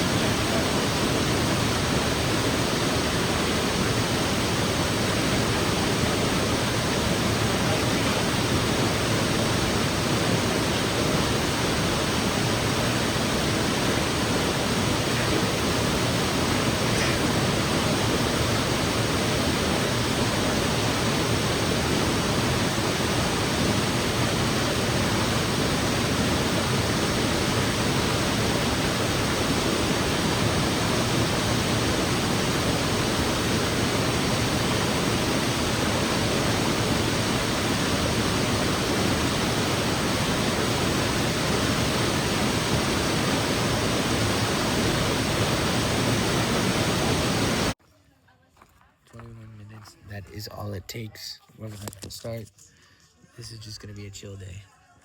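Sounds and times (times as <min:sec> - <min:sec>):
waterfall rushing into pool: 0:00.0 - 0:47.8.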